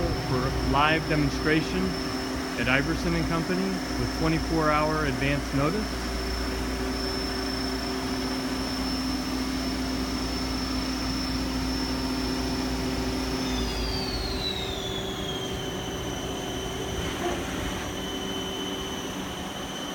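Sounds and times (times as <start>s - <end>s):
lathe whining: 0.0s - 19.9s
low machine hum: 0.0s - 19.9s.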